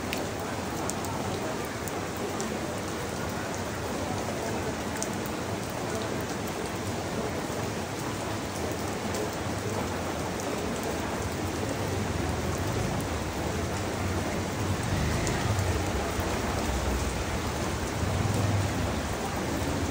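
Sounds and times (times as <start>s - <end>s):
rain on leaves: 0.0s - 19.9s.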